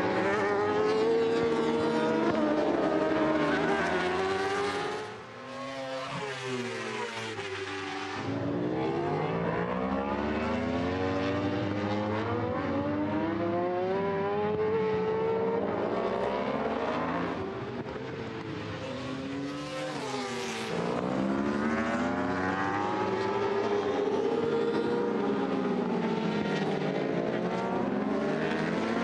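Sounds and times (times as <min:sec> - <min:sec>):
racing motorcycles accelerating: 0:00.0 - 0:29.0.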